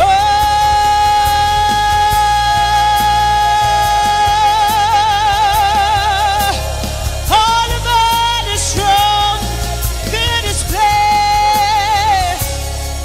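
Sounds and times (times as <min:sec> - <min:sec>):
band playing bass and keys: 0:00.0 - 0:13.0.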